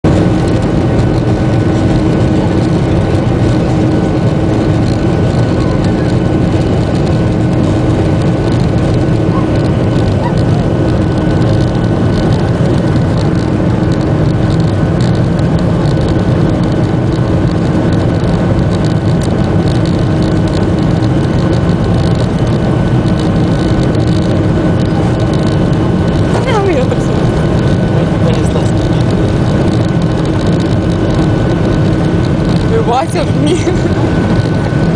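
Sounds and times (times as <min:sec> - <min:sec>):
jet engine whining tones: 0:00.0 - 0:34.9
jet engines roaring: 0:00.0 - 0:34.9.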